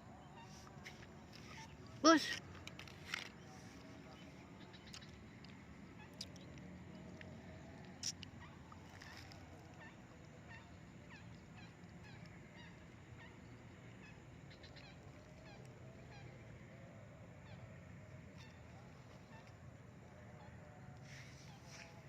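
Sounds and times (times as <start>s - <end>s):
faint bird calls: 0.0s - 22.0s.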